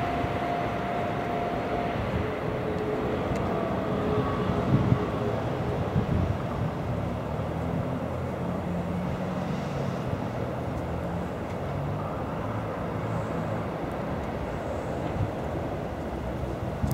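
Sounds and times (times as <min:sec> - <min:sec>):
road traffic noise: 0:00.0 - 0:16.9.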